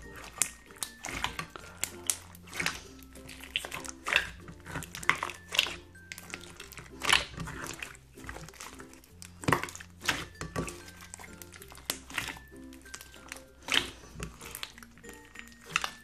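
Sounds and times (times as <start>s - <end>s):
slime squelching and popping: 0.0s - 16.0s
soft background music: 0.0s - 16.0s.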